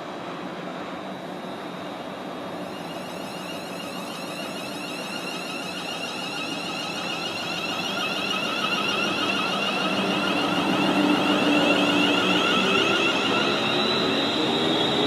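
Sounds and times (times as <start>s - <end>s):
train running: 0.0s - 15.0s
high warbling whine: 2.7s - 15.0s.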